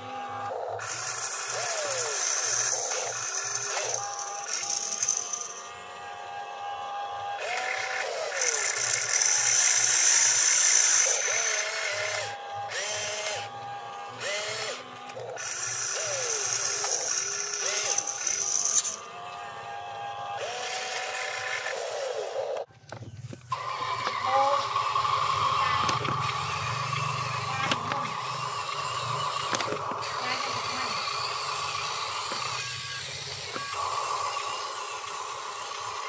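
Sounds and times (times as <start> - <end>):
toy excavator motors whining: 0.0 - 36.0.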